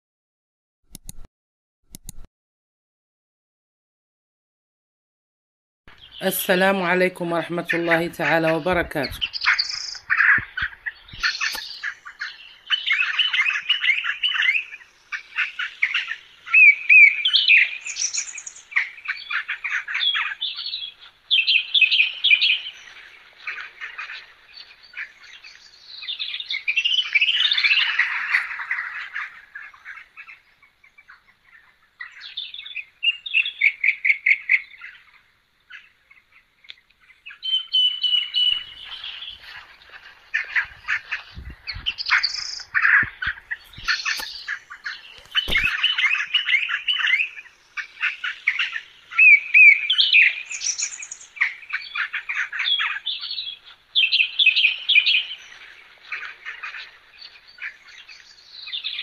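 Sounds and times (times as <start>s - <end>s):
birds chirping and trilling: 5.9s - 59.0s.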